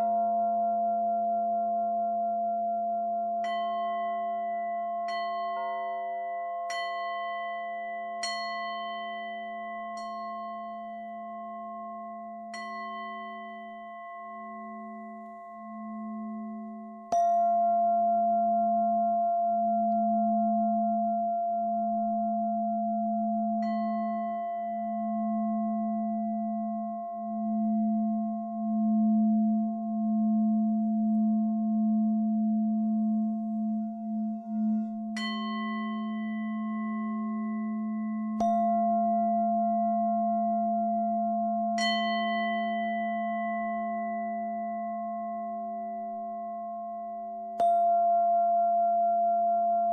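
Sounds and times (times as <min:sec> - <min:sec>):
low wavering tone: 0:00.0 - 0:49.9.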